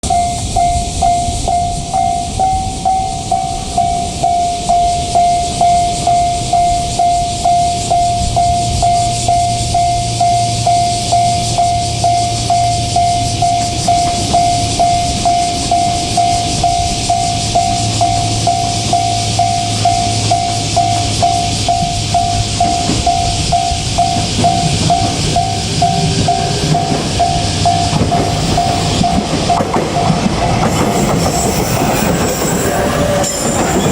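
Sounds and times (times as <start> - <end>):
level crossing warning bell: 0.0 - 33.9
train rumble: 0.0 - 33.9
continuous high hiss: 0.1 - 29.7.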